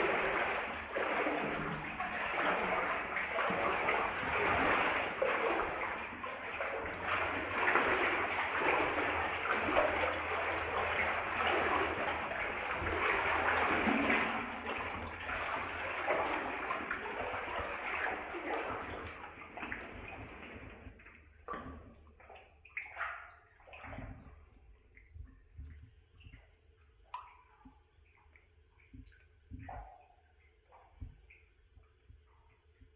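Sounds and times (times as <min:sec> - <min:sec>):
footsteps wading through water: 0:00.0 - 0:32.9
water drips: 0:00.0 - 0:32.9.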